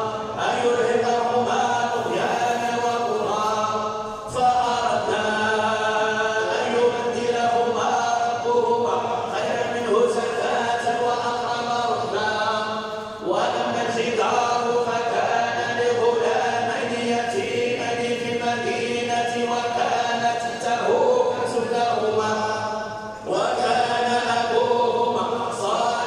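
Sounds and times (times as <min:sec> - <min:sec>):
melodic chanted recitation: 0:00.0 - 0:26.0.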